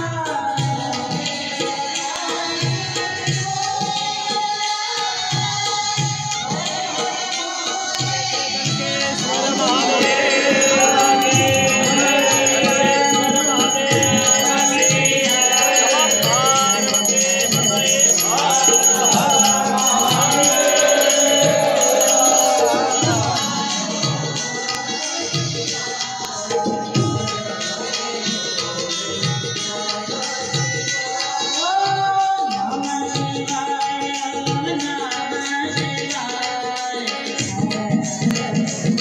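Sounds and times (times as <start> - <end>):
steady drum beat: 0.0 - 36.3
devotional music: 0.0 - 39.0
hand percussion: 0.0 - 39.0.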